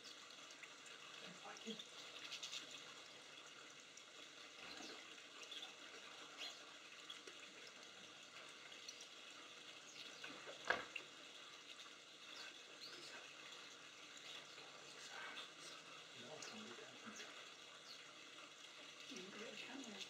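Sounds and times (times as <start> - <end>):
light rain falling: 0.0 - 20.0.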